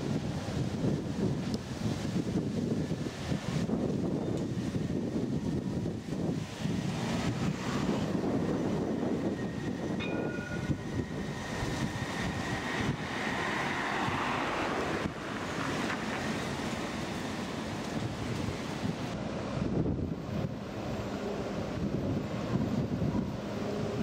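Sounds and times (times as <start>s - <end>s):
road traffic passing: 0.0s - 24.0s
tram rolling rumble: 0.0s - 24.0s
wind noise on microphone: 0.0s - 24.0s.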